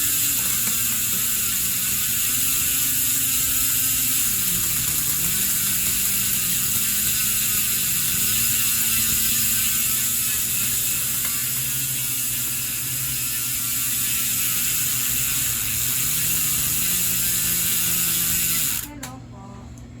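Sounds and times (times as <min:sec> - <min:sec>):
bicycle hub freewheeling buzz: 0:00.0 - 0:18.9.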